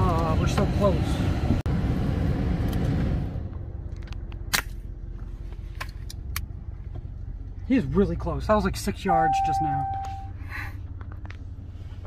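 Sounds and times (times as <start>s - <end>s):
truck engine low rumble: 0.0s - 12.0s.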